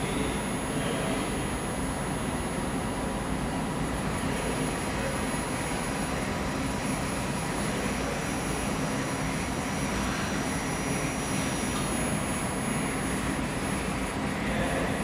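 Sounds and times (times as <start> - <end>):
machinery hum and hiss: 0.0 - 15.0.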